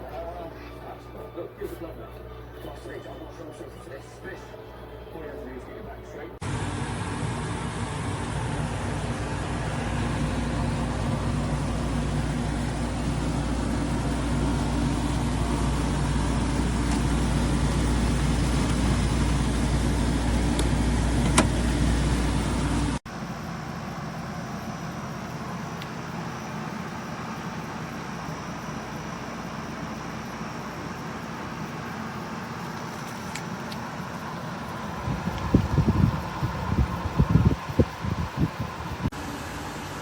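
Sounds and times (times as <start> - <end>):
air conditioner fan rush: 0.0 - 40.0
compressor hum: 0.0 - 40.0.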